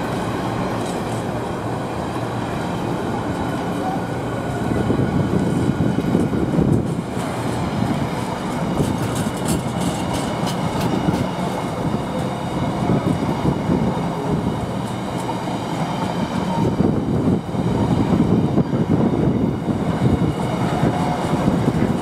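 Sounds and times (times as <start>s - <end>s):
train wagons rumbling on rails: 0.0s - 22.0s.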